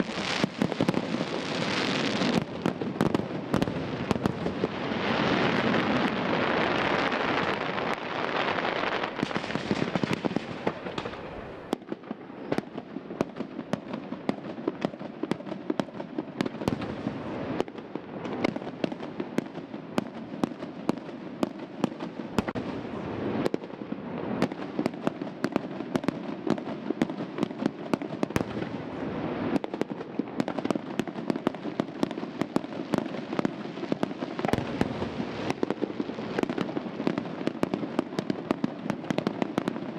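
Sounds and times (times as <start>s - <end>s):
fireworks bangs and pops: 0.0s - 39.9s
fireworks crackling: 0.0s - 39.9s.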